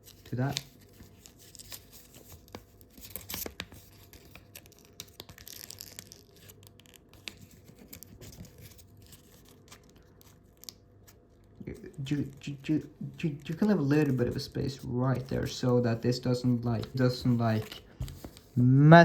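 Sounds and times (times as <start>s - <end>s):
paper rustling and crackling: 0.0s - 18.6s.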